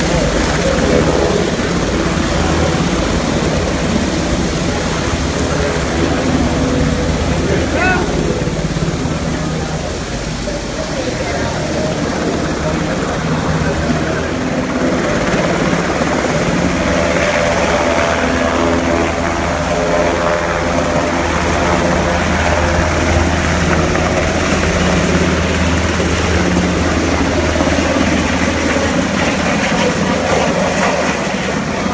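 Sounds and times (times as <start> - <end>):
helicopter rotor and engines droning: 0.0 - 31.9.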